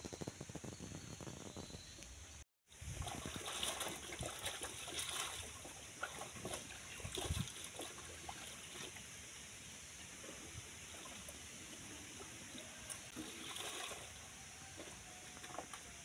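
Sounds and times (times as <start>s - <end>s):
water splashing and trickling: 2.7s - 16.0s.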